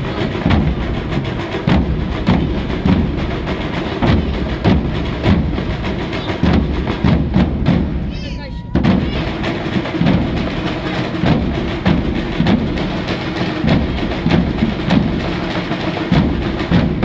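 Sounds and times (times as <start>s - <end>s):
bass drum beats: 0.0s - 17.0s
side drum strokes: 0.0s - 17.0s.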